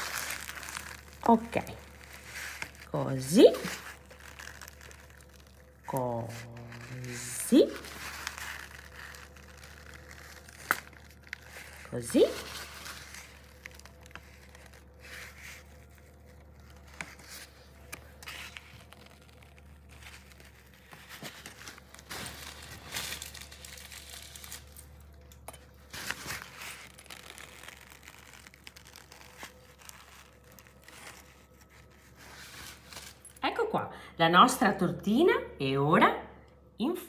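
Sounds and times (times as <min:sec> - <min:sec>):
piping bag crinkling: 0:00.0 - 0:33.4
faint low hum: 0:00.0 - 0:37.0.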